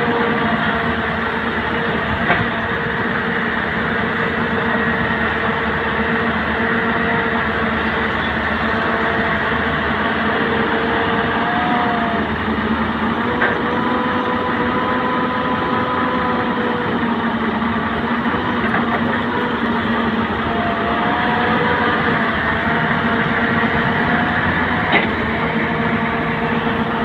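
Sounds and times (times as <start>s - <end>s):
heavy diesel engines running: 0.0s - 27.0s.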